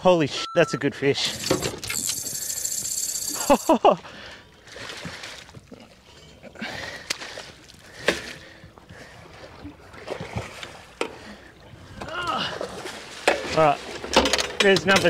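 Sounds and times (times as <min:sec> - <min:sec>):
water sloshing: 0:01.2 - 0:14.6.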